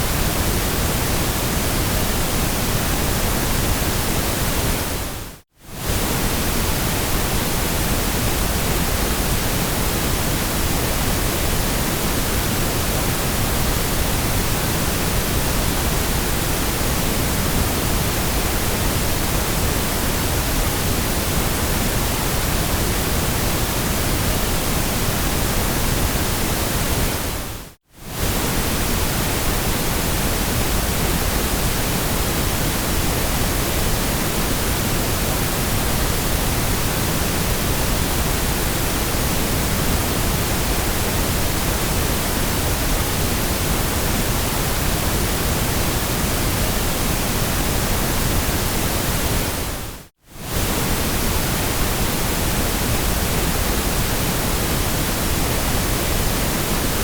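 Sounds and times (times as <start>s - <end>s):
synthetic white noise hiss: 0.0s - 57.0s.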